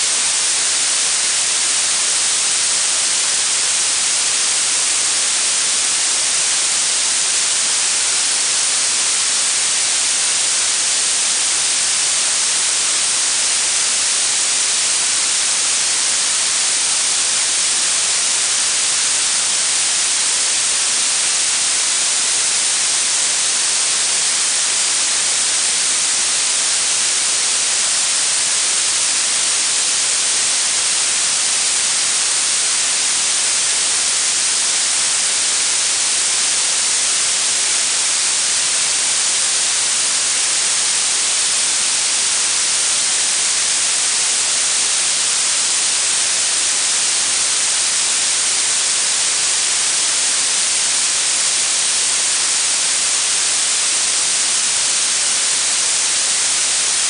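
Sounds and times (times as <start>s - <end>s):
blue noise hiss: 0.0s - 57.0s.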